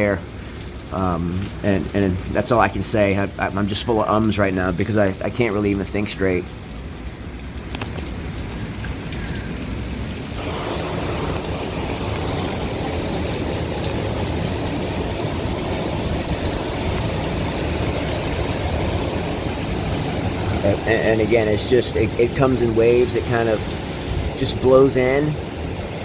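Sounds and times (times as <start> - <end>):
hurricane wind rushing: 0.0 - 26.0.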